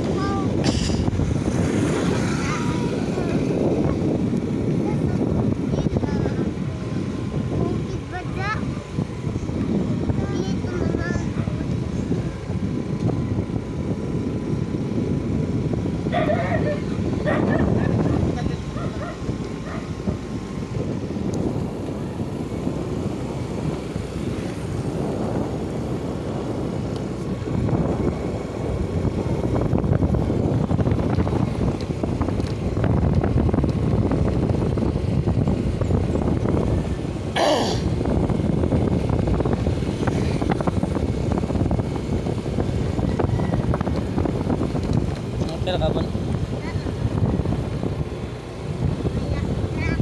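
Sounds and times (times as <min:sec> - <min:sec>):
scooter engine and tyre noise: 0:00.0 - 0:50.0
wind buffeting microphone: 0:00.0 - 0:50.0.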